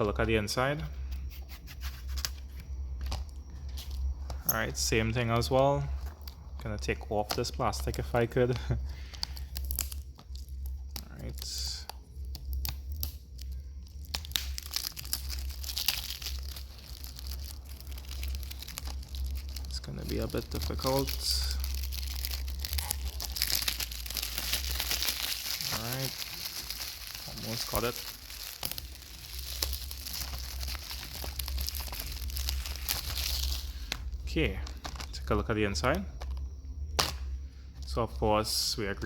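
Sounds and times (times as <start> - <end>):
plastic shrink-wrap crinkling: 1.8 - 35.5.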